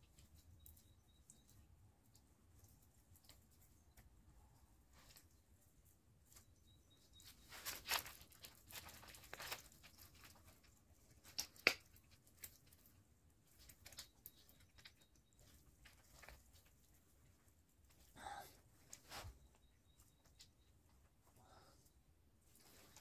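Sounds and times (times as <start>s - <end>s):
leaves rustling and crinkling: 0.0s - 21.3s, 22.4s - 23.0s.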